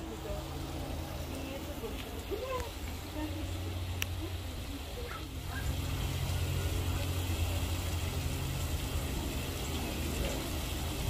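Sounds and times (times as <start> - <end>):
steady low rumble and hiss: 0.0 - 11.0.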